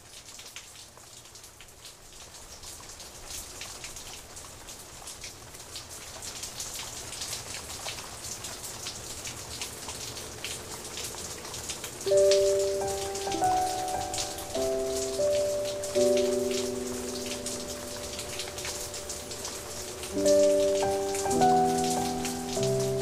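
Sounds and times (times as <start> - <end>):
rain falling on leaves: 0.0 - 23.0.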